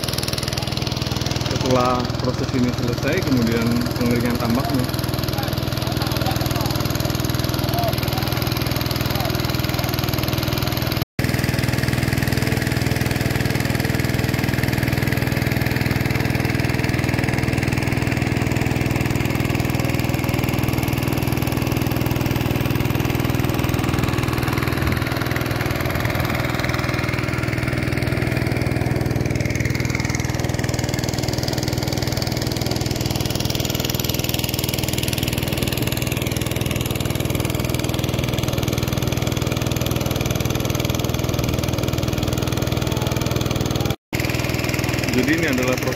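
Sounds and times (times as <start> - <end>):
small engine humming steadily: 0.0 - 45.9.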